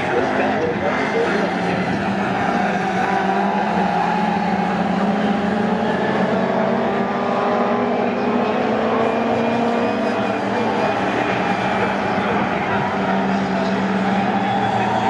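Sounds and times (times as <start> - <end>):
racing car engines droning: 0.0 - 15.0.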